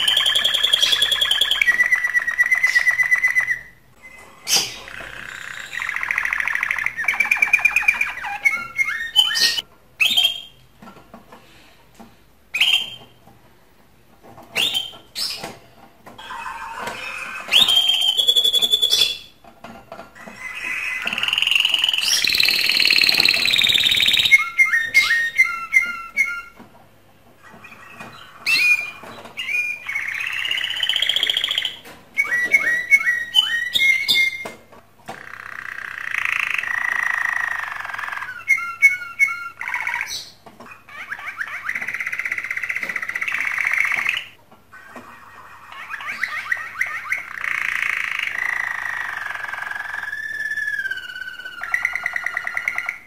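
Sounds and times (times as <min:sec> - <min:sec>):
canary singing trills: 0:00.0 - 0:10.6, 0:16.2 - 0:19.4, 0:20.2 - 0:26.6, 0:27.4 - 0:34.6, 0:35.2 - 0:53.0.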